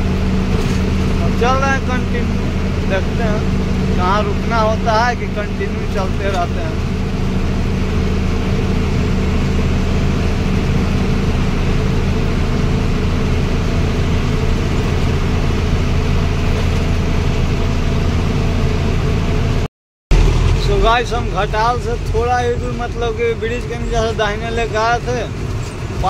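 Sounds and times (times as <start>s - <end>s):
road and tyre noise: 0.0s - 26.0s
truck diesel engine drone: 0.0s - 26.0s.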